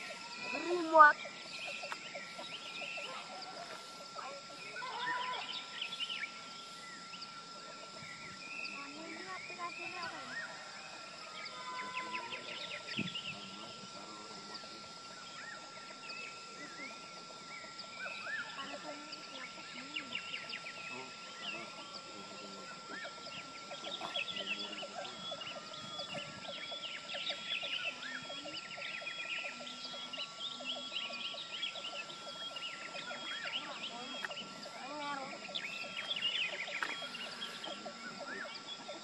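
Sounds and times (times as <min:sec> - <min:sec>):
birds chirping and whistling: 0:00.0 - 0:39.0
steady high tone: 0:00.0 - 0:39.0.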